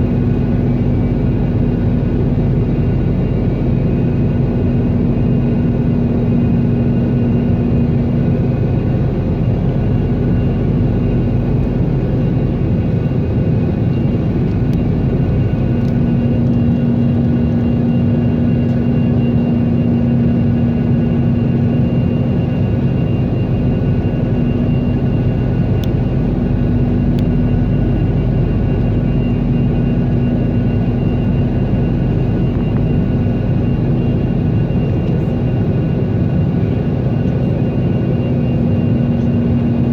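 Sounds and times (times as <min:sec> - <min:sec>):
jet cabin drone: 0:00.0 - 0:39.9.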